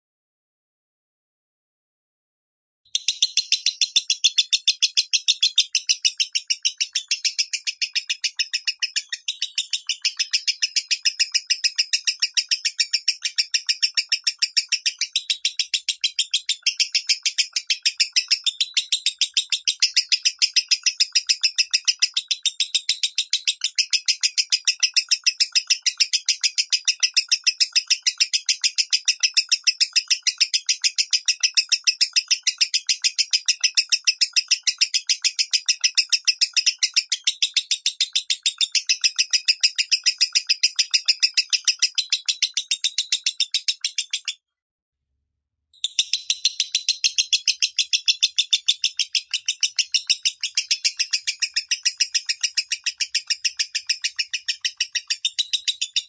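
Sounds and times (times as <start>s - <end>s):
lovebird shrill chirps: 2.9s - 44.4s, 45.8s - 56.0s.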